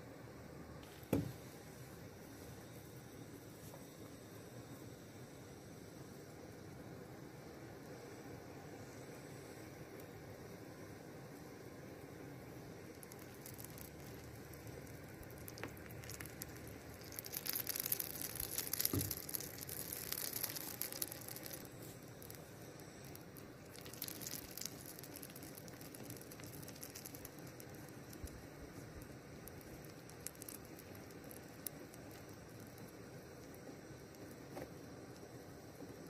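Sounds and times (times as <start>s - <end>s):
hot sap crackling and sizzling: 0.0s - 36.0s.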